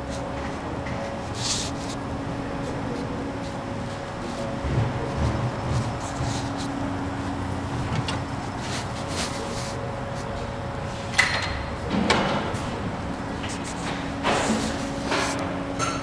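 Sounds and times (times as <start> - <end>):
low workshop hum: 0.0 - 16.0.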